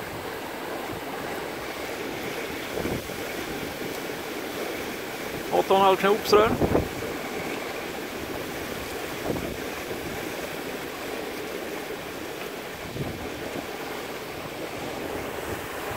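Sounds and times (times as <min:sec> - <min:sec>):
wind buffeting microphone: 0:00.0 - 0:05.6, 0:06.3 - 0:15.9
water rushing along hull: 0:00.0 - 0:15.9
waves splashing: 0:00.0 - 0:15.9.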